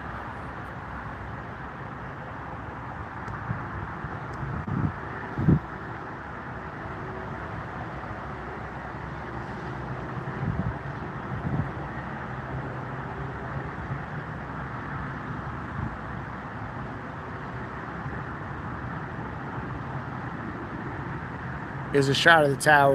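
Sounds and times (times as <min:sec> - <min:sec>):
wind gusting on microphone: 0:00.0 - 0:22.4
steady outdoor rumble: 0:00.0 - 0:22.9.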